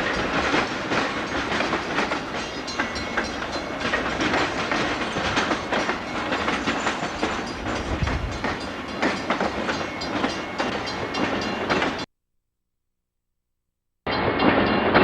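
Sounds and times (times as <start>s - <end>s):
train wheels clattering over rail joints: 0.0s - 12.0s.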